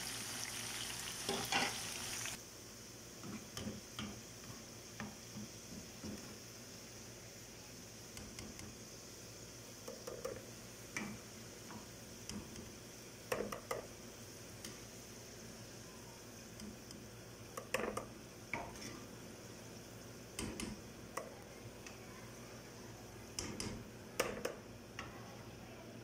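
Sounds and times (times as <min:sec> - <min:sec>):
hot oil sizzling: 0:00.0 - 0:24.9.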